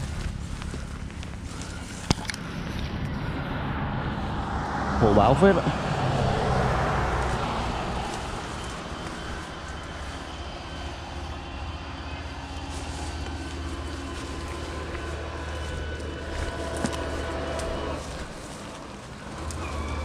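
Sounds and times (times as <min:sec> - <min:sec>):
vehicle engine drone: 0:00.0 - 0:20.0.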